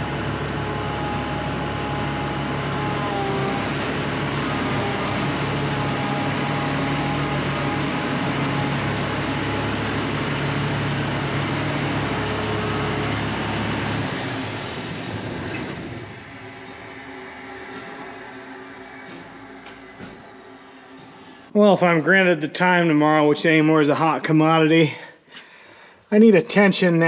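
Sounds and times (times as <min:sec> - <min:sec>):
combine harvester running: 0:00.0 - 0:21.8.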